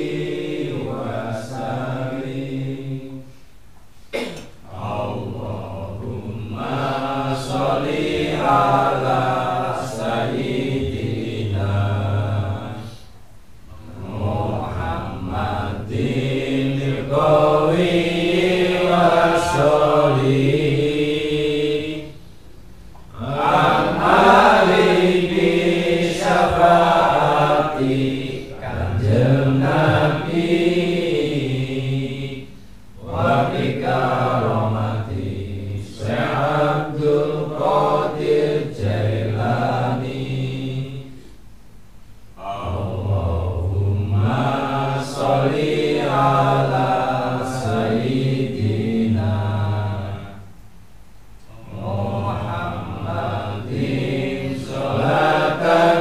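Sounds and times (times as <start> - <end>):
men chanting together: 0.0 - 3.3, 4.2 - 13.0, 13.7 - 22.2, 23.0 - 41.3, 42.4 - 50.4, 51.5 - 56.0.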